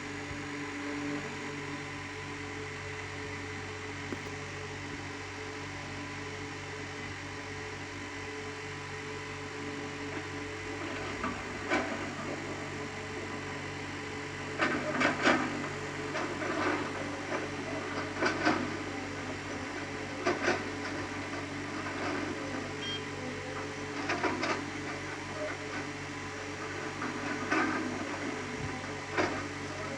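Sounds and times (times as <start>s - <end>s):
excavator engine humming: 0.0s - 29.9s.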